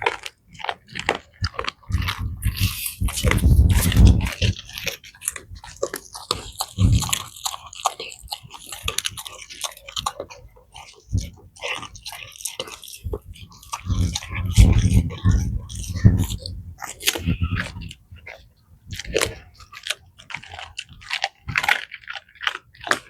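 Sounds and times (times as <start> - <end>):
dog crunching bones: 0.0 - 23.0.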